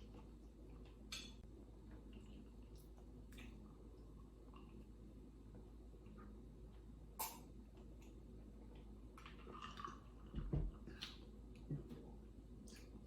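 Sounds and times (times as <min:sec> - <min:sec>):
soft chewing and mouth sounds: 0:00.0 - 0:13.0.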